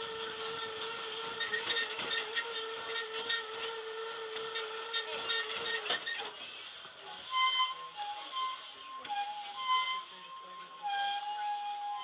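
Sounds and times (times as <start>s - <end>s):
tram whine and rolling: 0.0s - 12.0s.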